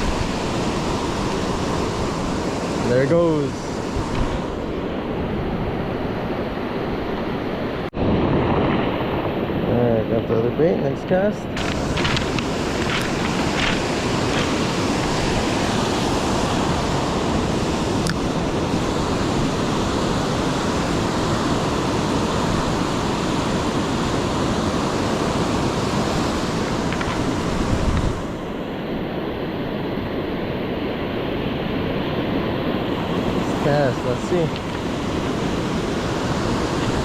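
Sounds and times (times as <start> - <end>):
wind on microphone: 0.0 - 9.8, 11.1 - 30.6, 31.4 - 37.0
ocean surf on beach: 0.0 - 37.0.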